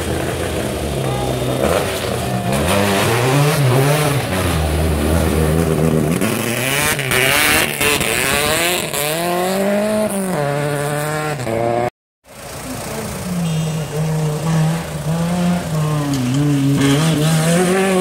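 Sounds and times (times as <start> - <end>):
rally car engine revving: 0.0 - 11.9, 12.5 - 18.0.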